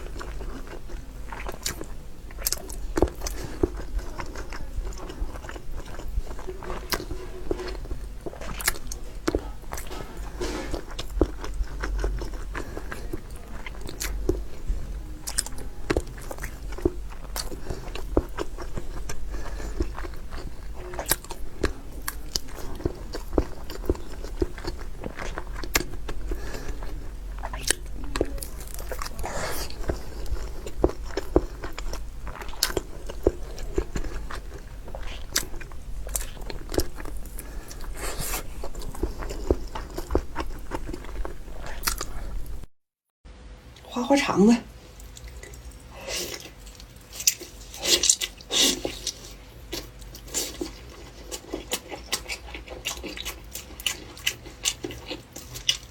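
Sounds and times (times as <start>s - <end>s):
person chewing meat: 0.0s - 42.7s, 44.8s - 55.9s.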